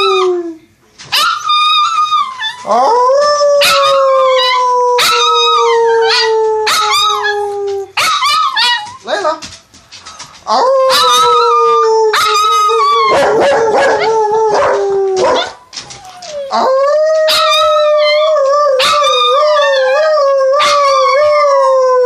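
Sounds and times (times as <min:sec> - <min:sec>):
dogs howling: 0:01.2 - 0:09.0, 0:10.5 - 0:22.0.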